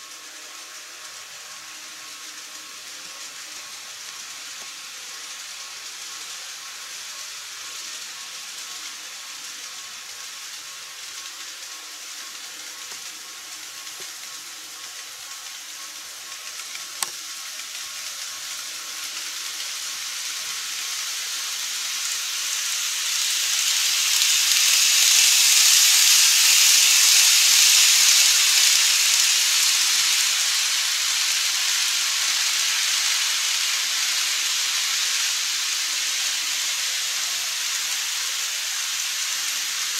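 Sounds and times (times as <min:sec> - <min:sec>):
model train rolling hiss: 0:00.0 - 0:39.9.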